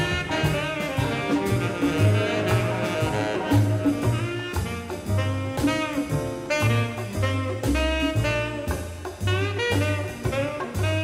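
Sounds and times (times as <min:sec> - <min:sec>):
jazz music with horns: 0:00.0 - 0:11.0
steady drum beat: 0:00.0 - 0:11.0.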